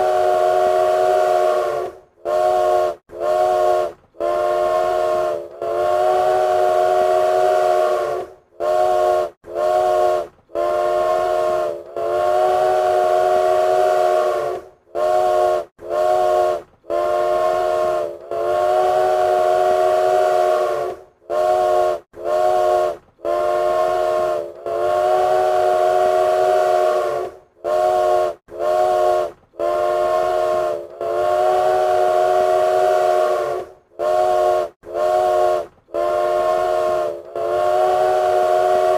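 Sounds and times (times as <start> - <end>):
train whistle chord: 0.0 - 38.9.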